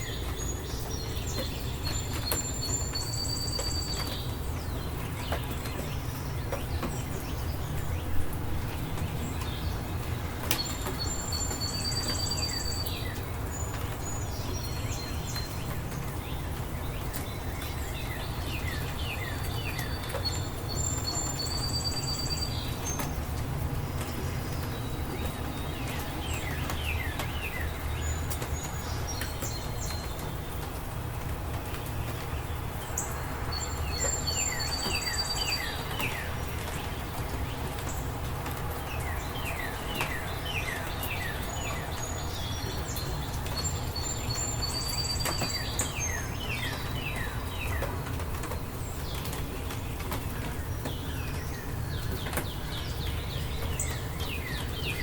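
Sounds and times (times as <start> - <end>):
birds chirping and whistling: 0.0 - 23.2, 31.6 - 55.0
steady rain: 0.0 - 55.0.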